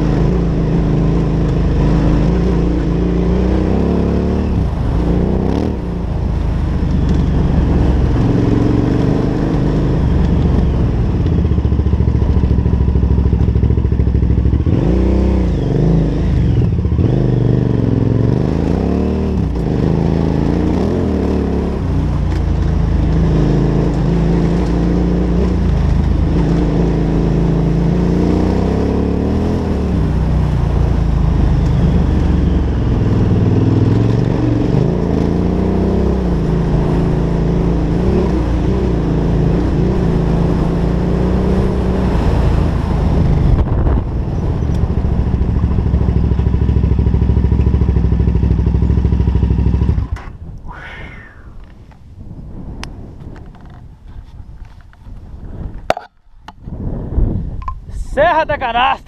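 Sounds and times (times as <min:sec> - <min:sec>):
motorcycle engine revving off-road: 0:00.0 - 0:50.5.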